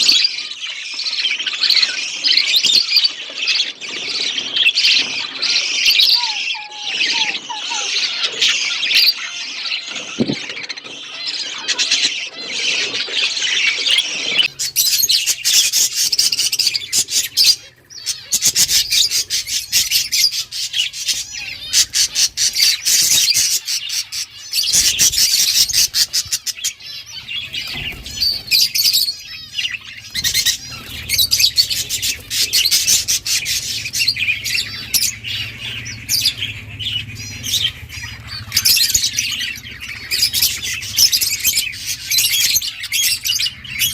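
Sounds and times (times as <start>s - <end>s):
budgerigars chirping and squawking: 0.0s - 43.9s.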